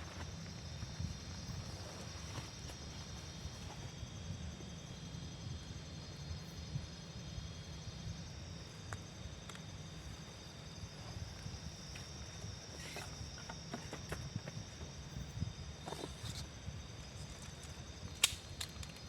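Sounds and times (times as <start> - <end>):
constant low rumble: 0.0 - 19.0
insects trilling: 0.0 - 19.0.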